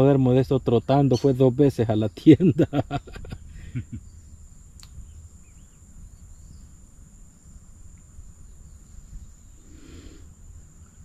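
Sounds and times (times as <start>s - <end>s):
high-pitched insect trill: 0.0s - 11.0s
faint bird chirps: 1.0s - 11.0s.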